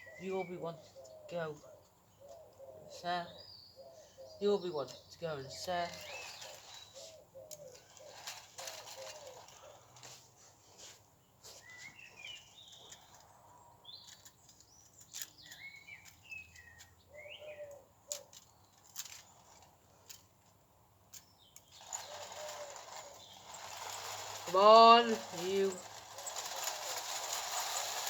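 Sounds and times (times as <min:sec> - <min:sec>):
faint birdsong chirps: 0:00.0 - 0:27.1.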